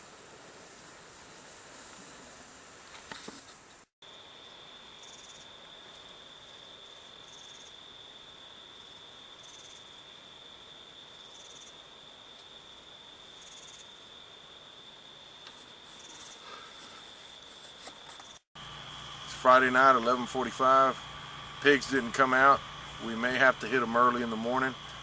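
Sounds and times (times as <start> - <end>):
insect high-pitched trill: 4.0 - 25.0.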